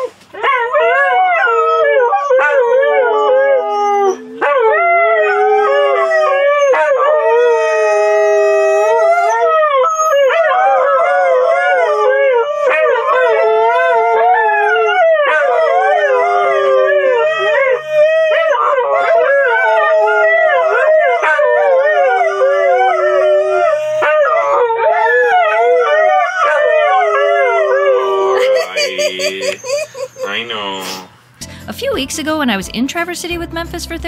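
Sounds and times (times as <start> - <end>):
dogs howling together: 0.4 - 30.3.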